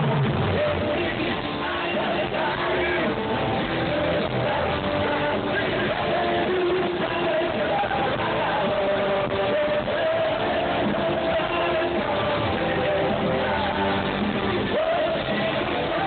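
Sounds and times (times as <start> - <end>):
live rock band: 0.0 - 16.0
person singing: 0.0 - 16.0.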